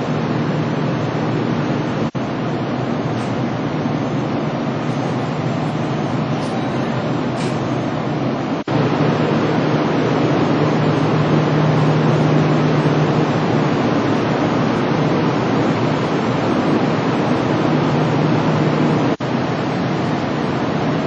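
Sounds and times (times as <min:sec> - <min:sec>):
low steady hum: 0:00.0 - 0:21.0
rushing station platform noise: 0:00.0 - 0:21.0.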